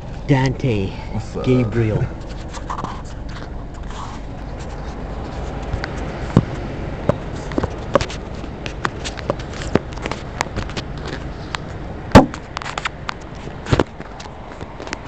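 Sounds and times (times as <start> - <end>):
low rumble: 0.0 - 13.7.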